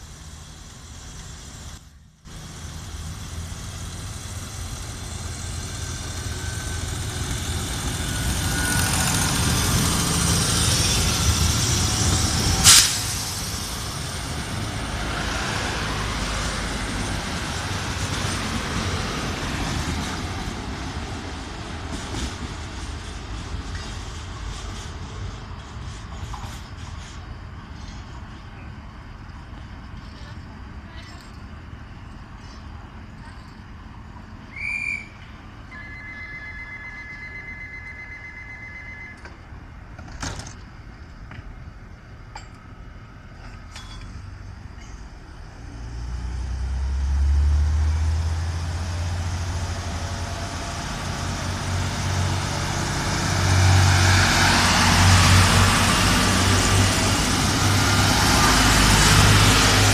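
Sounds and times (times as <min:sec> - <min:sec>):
diesel train passing: 0:00.0 - 0:59.9.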